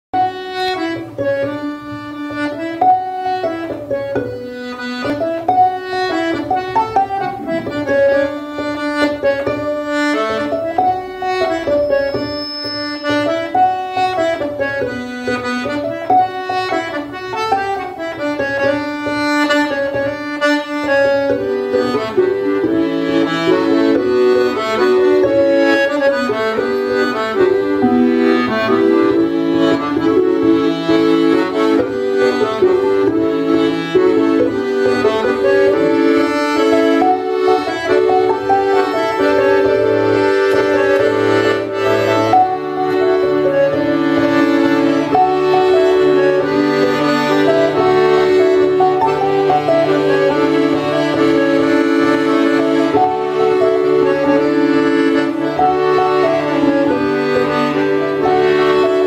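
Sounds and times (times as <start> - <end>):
accordion playing folk tune: 0.1 - 59.0
fiddle plucked pizzicato: 0.2 - 59.0.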